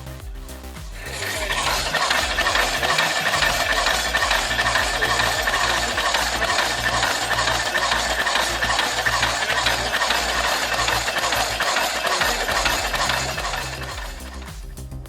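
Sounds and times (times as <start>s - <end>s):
low hum: 0.0s - 15.0s
machine engine rattling: 1.1s - 14.5s.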